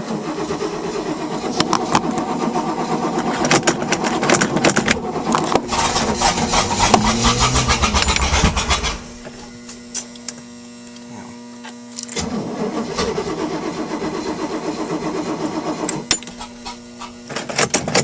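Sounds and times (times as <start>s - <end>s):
starter motor cranking: 0.0s - 10.2s, 12.0s - 18.0s.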